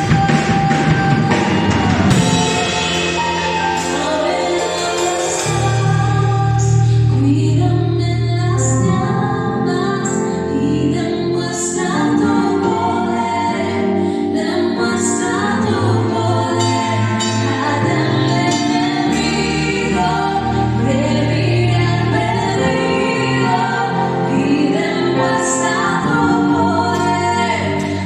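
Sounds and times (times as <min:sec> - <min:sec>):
instrumental accompaniment with bass: 0:00.0 - 0:28.0
voices singing together: 0:00.0 - 0:28.0.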